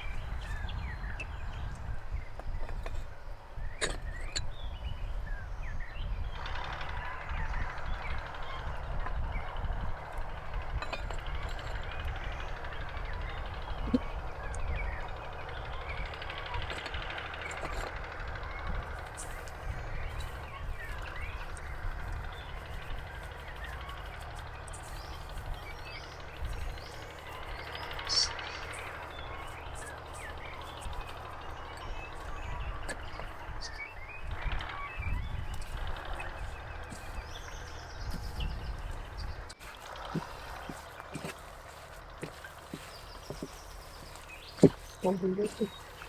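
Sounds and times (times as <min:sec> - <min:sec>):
low wind rumble: 0:00.0 - 0:46.0
small birds chirping: 0:00.0 - 0:46.0.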